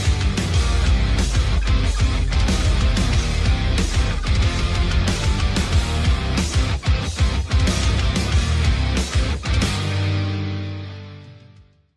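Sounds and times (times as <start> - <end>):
heavy rock music: 0.0 - 11.8.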